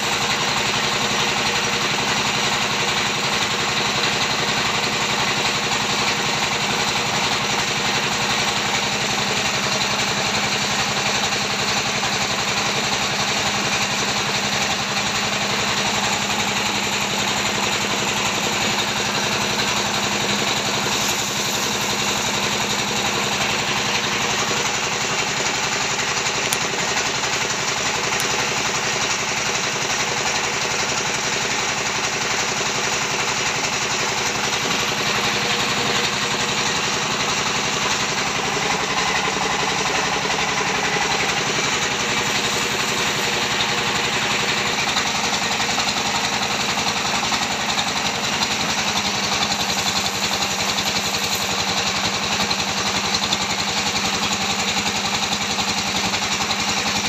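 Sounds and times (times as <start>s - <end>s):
paddle churning wet concrete: 0.0s - 57.0s
small engine running: 0.0s - 57.0s.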